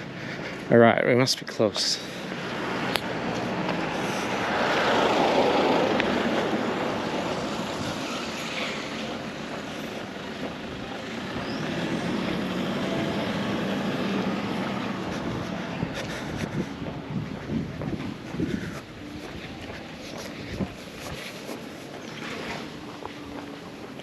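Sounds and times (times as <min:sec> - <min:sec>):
passing vehicle engine: 0:02.0 - 0:24.0.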